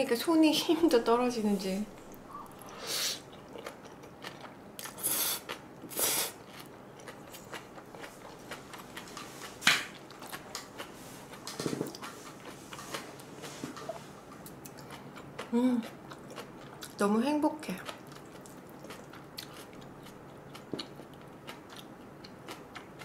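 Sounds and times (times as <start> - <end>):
chewing: 2.0 - 17.0, 17.8 - 23.0.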